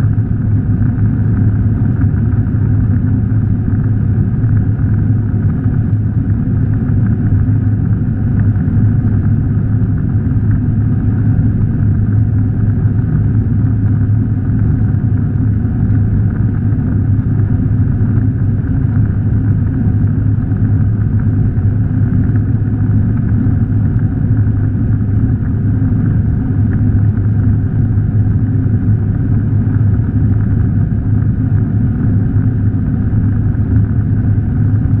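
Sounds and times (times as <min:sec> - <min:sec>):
jet engine drone: 0:00.0 - 0:35.0.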